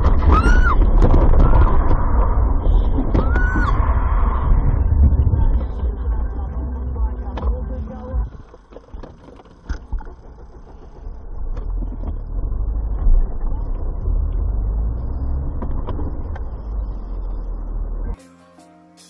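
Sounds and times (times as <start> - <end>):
car rumbling: 0.0 - 18.2.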